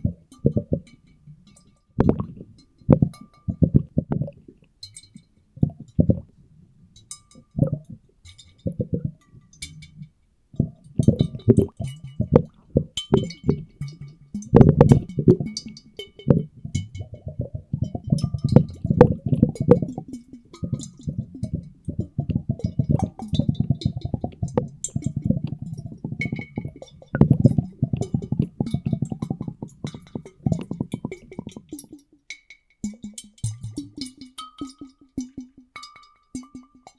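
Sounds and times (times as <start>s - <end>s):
water plopping and gurgling: 0.0s - 32.1s, 32.8s - 36.9s.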